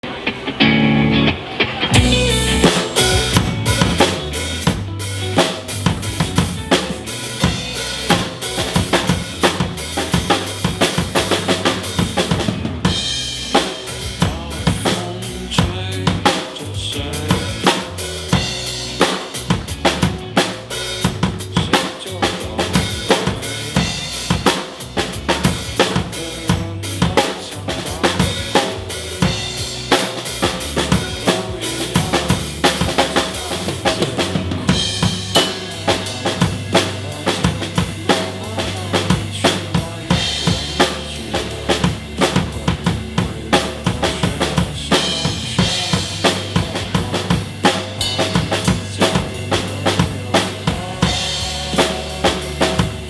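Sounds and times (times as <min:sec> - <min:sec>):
backing band with bass and guitars: 0:00.0 - 0:53.0
rock drum beat: 0:01.9 - 0:53.0.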